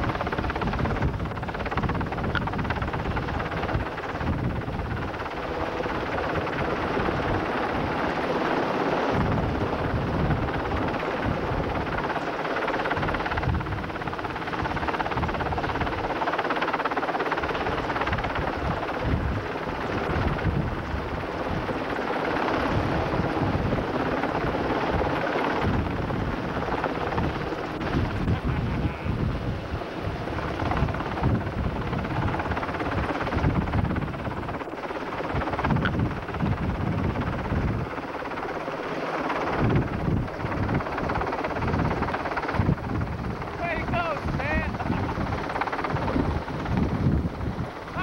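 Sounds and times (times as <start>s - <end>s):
rotor wash gusting on microphone: 0.0s - 12.1s, 17.7s - 48.0s
helicopter rotor and turbine noise: 0.0s - 48.0s.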